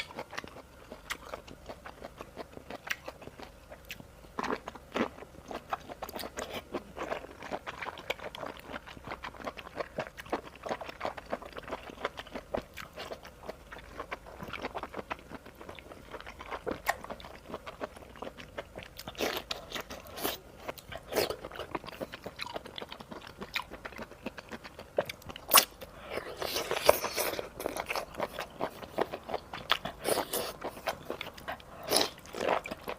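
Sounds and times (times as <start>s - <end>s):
person chewing crunchy food: 0.0s - 32.9s.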